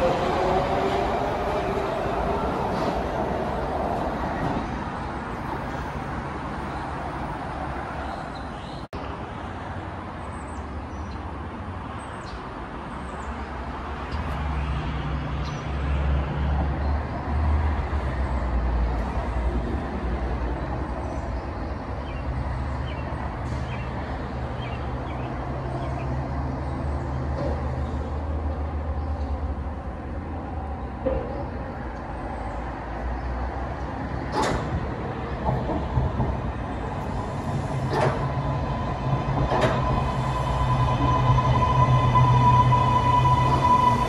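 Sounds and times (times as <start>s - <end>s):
train rumble and hum: 0.0s - 8.0s, 13.6s - 44.0s.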